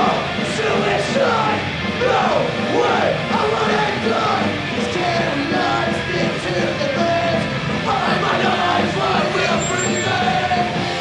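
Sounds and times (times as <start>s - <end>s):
live punk rock band: 0.0s - 11.0s.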